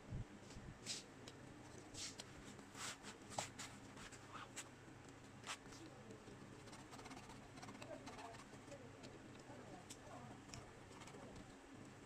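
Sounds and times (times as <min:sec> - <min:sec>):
low steady hum: 0:00.0 - 0:12.0
faint scrapes and clicks: 0:00.5 - 0:12.0.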